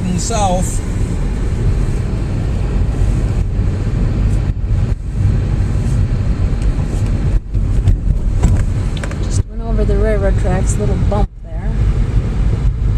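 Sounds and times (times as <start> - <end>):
car engine and tyres rumbling: 0.0 - 12.9.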